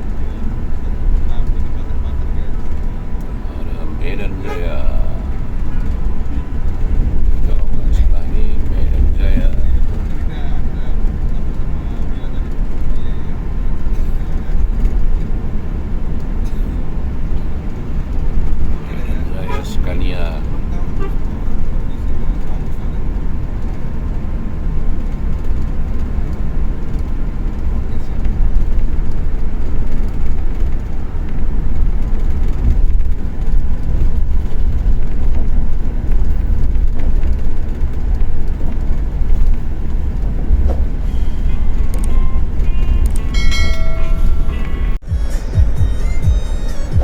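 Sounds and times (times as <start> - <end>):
coach engine and road rumble: 0.0 - 47.0.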